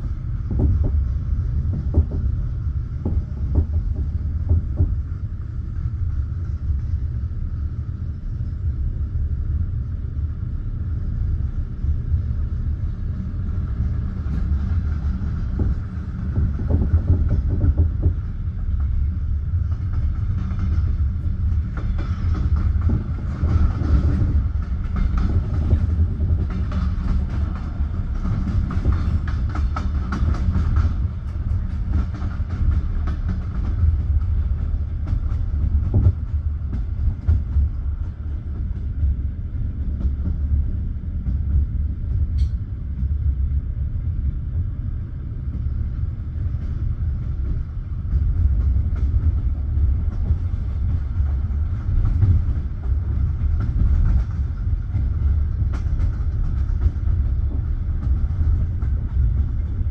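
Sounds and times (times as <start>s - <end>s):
train wheels clicking over rail joints: 0.0s - 7.0s, 13.3s - 59.9s
train rumbling: 0.0s - 59.9s.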